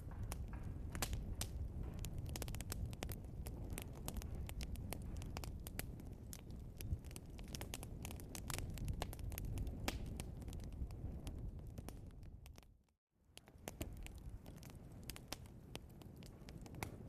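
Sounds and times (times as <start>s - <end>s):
log fire crackling and popping: 0.0s - 17.0s.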